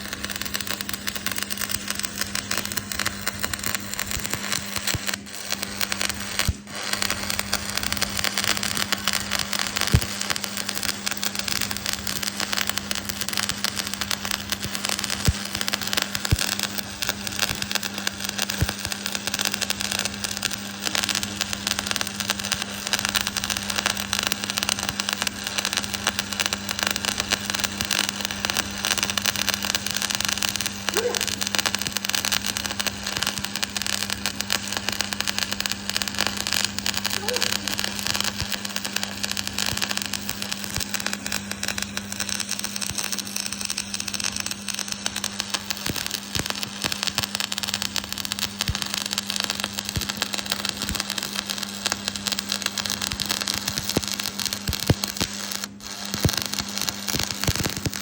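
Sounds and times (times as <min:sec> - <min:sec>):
welding arc crackling and sizzling: 0:00.0 - 0:58.0.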